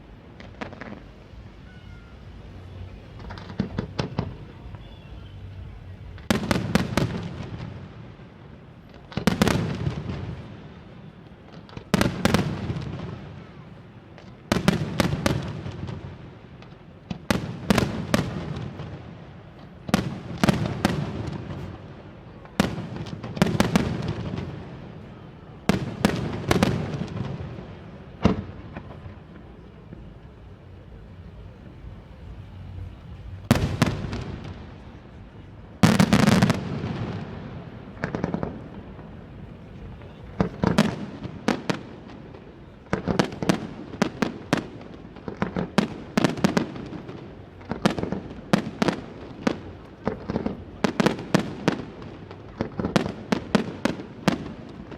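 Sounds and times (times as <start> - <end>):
fireworks bursting with echo: 0.0 - 54.9.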